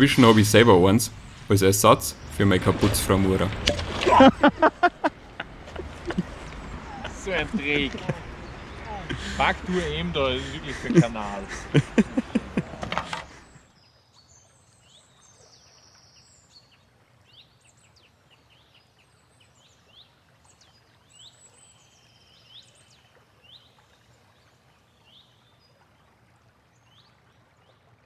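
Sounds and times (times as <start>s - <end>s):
faint birdsong chirps and trills: 0.0s - 3.5s, 4.4s - 28.0s.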